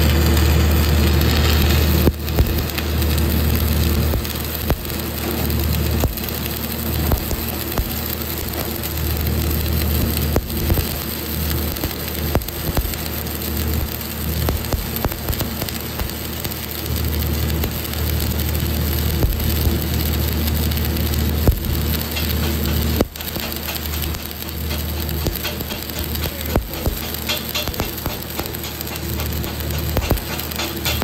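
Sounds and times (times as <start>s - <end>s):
steady low hum: 0.0s - 31.0s
welding arc crackling and sizzling: 0.0s - 31.0s
welding arc pops: 0.0s - 31.0s.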